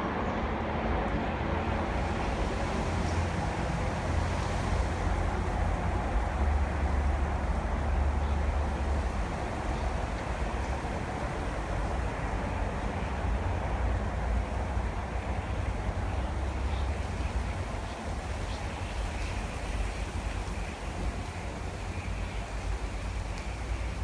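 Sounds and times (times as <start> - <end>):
outdoor rumble with hiss: 0.0 - 24.0.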